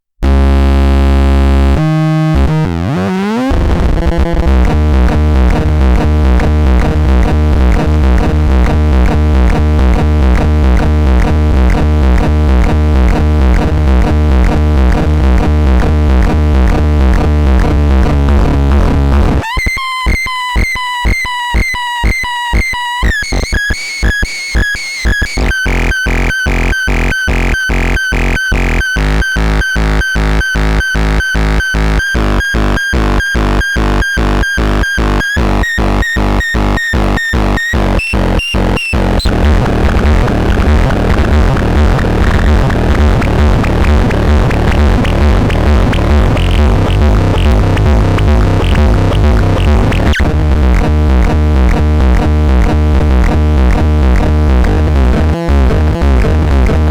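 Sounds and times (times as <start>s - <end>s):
electronic synthesizer music: 0.2s - 56.9s.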